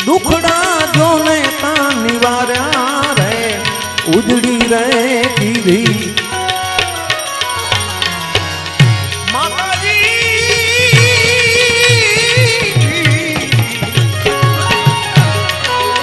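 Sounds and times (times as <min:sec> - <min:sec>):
man singing: 0:00.0 - 0:06.9, 0:08.0 - 0:16.0
hand drums: 0:00.0 - 0:16.0
harmonium: 0:00.0 - 0:16.0.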